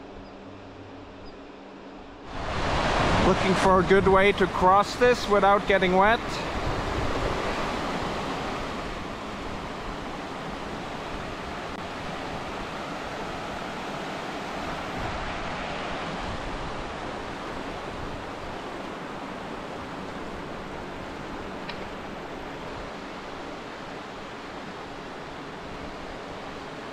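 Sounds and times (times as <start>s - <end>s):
stream rushing over rocks: 2.3s - 26.9s.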